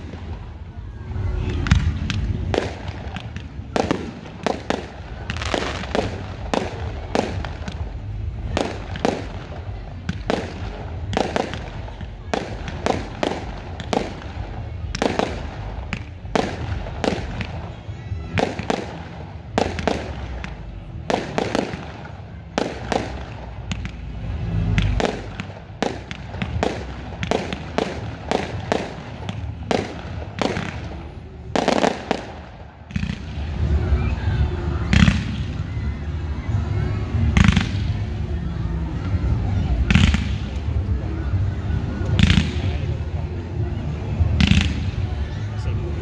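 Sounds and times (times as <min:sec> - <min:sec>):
fireworks bursting: 0:00.0 - 0:35.7, 0:37.1 - 0:38.3, 0:39.0 - 0:40.8.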